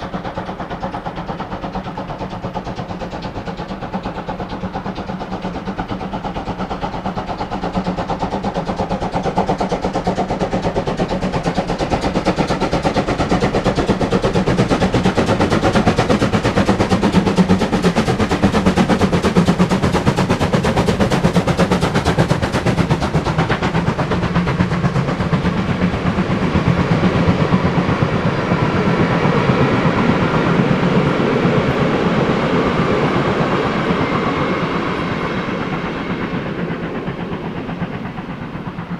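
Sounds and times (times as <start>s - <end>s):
steam locomotive exhaust beats: 0.0s - 38.9s.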